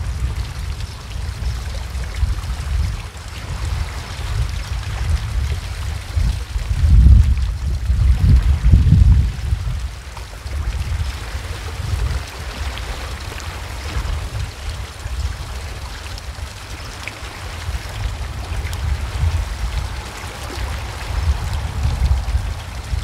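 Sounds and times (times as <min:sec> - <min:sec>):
sea washing against rocks: 0:00.0 - 0:23.0
wind buffeting microphone: 0:00.0 - 0:23.0.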